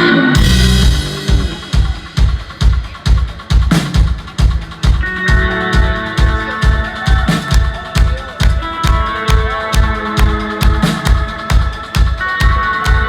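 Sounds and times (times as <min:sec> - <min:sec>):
live rock band playing: 0:00.0 - 0:13.0
kick drum beat: 0:01.3 - 0:13.0.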